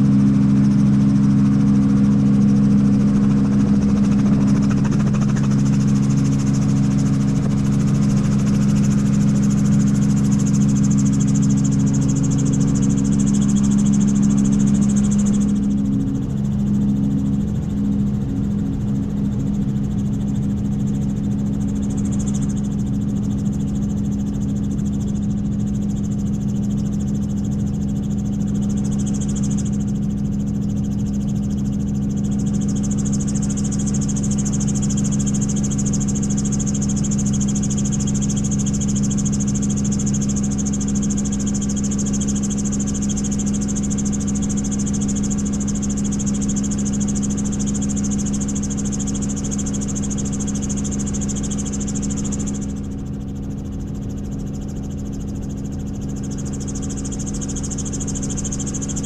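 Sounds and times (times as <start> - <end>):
helicopter droning with high whine: 0.0 - 59.0.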